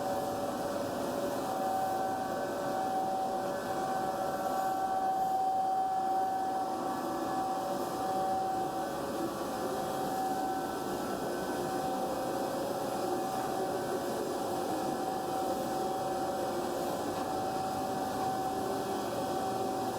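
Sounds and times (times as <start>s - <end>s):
drilling machine humming and whining: 0.0s - 19.9s.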